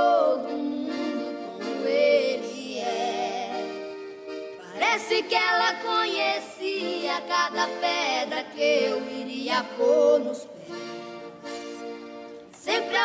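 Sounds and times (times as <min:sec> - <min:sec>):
boys singing: 0:00.0 - 0:03.8, 0:04.6 - 0:11.3, 0:12.6 - 0:13.0
accordion playing chords: 0:00.0 - 0:13.0.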